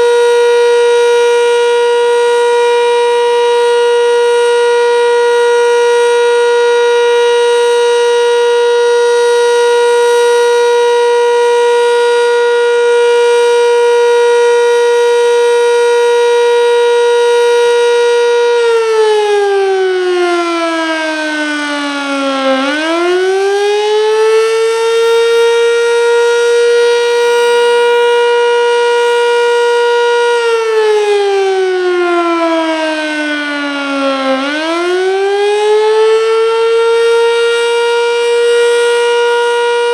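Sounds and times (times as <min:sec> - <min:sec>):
warning siren: 0:00.0 - 0:39.9.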